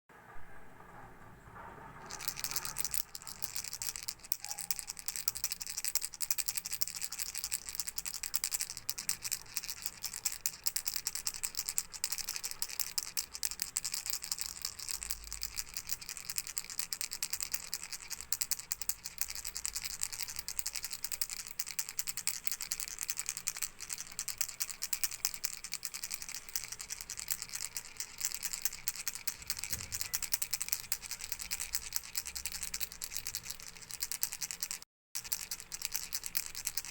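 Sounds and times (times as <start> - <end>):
toy rattle shaken: 2.0 - 36.9.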